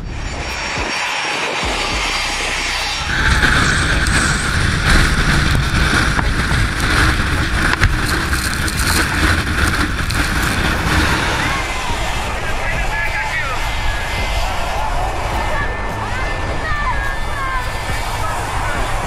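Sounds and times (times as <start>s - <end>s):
jet engines roaring: 0.0s - 19.0s
wind buffeting microphone: 0.0s - 19.0s.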